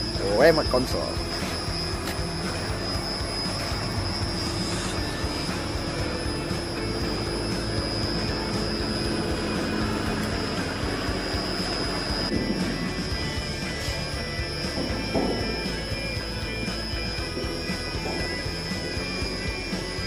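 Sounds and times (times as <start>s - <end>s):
heavy machinery drone: 0.0s - 20.0s
high-pitched whine: 0.0s - 20.0s
low hum: 0.0s - 20.0s.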